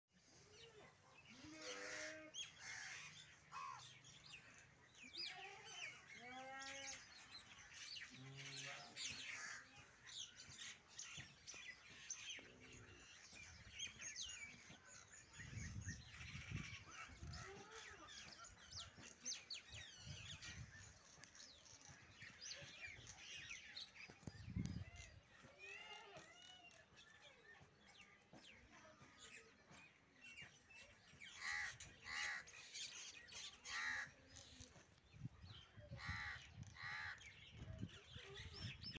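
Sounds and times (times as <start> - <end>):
small birds chirping: 0.2 - 38.9.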